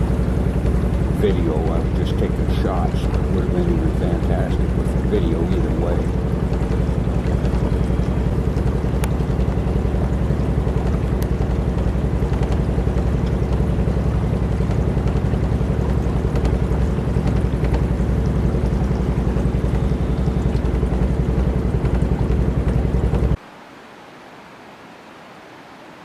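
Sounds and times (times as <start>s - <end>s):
small gasoline engine running: 0.0s - 23.4s.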